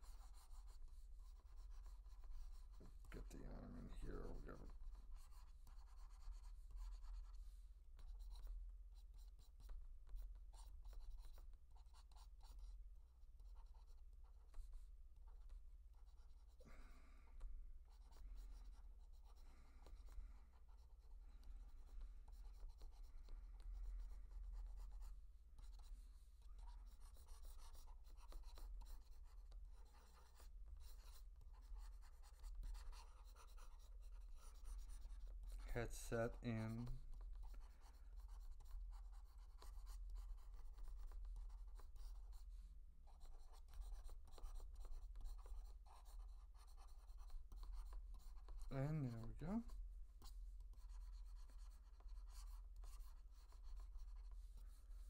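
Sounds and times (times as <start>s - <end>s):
stylus scratching on tablet: 0.0s - 55.0s.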